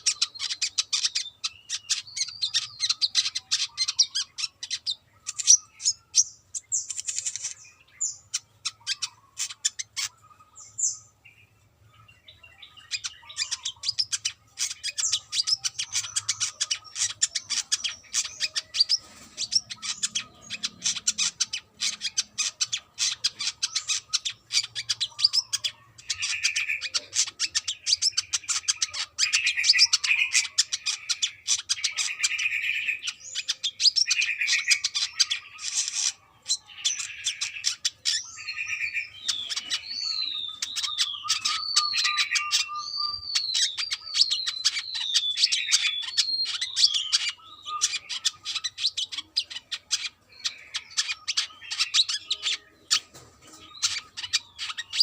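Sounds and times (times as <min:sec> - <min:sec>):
bird twittering chirps: 0:00.0 - 0:55.0.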